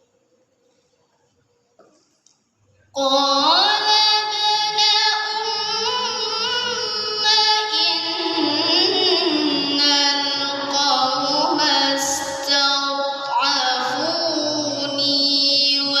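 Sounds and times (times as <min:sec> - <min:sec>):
melodic recitation in high voice: 0:03.0 - 0:16.0.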